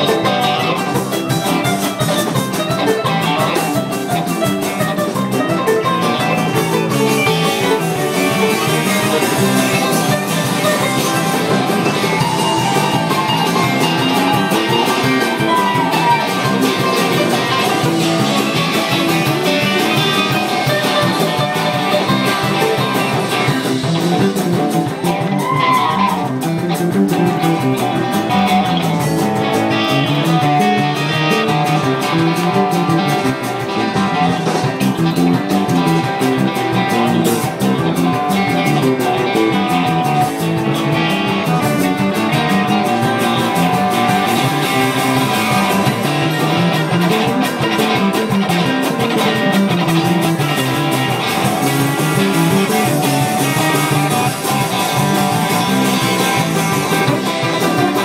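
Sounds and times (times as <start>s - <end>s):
instrumental guitar music: 0.0s - 58.0s.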